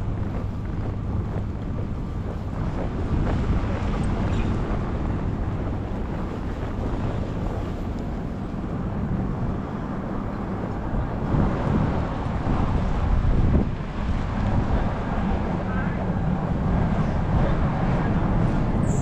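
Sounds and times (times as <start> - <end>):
street traffic: 0.0 - 19.0
wind buffeting microphone: 0.0 - 19.0.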